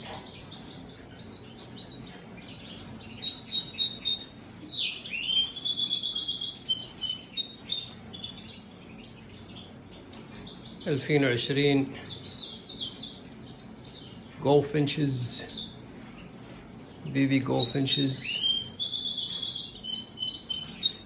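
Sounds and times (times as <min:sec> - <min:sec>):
finch twittering song: 0:00.0 - 0:21.0.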